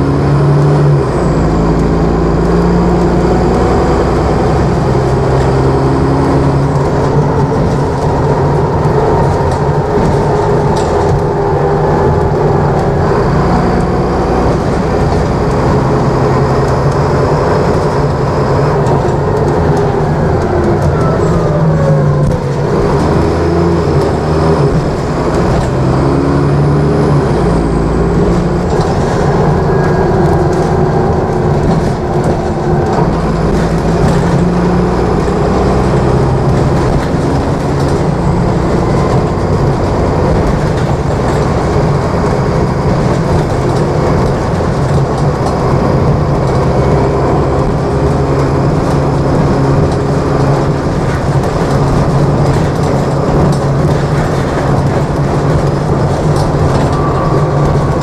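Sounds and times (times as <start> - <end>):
bus diesel engine running: 0.0 - 58.0
road and body noise: 0.0 - 58.0.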